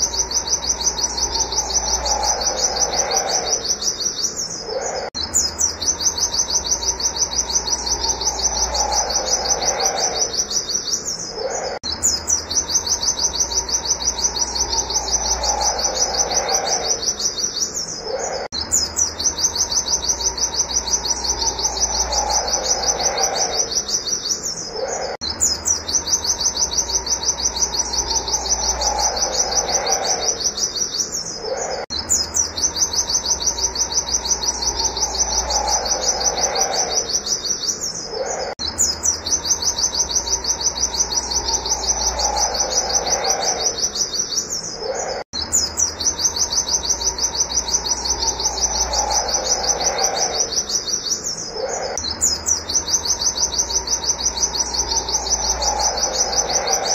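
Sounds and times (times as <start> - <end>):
bird singing rapid high notes: 0.0 - 56.9.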